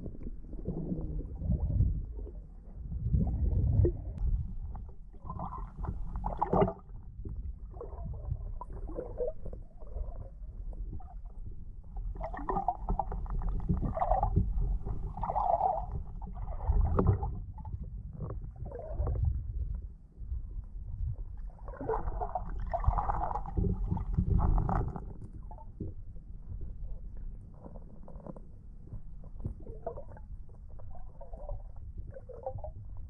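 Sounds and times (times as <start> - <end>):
water gurgling: 0.0 - 19.6, 21.5 - 25.9, 29.4 - 33.0
underwater moving water rumble: 0.0 - 33.0.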